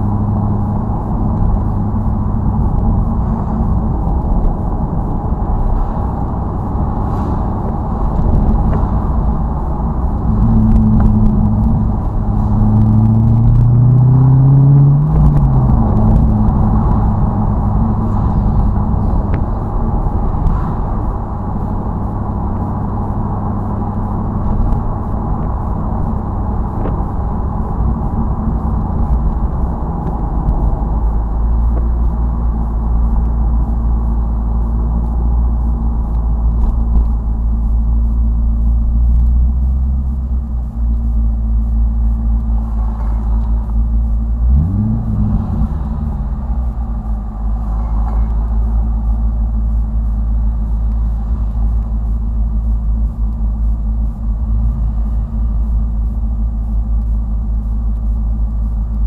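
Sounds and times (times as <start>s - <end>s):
car engine drone: 0.0s - 59.0s
road rumble: 0.0s - 59.0s.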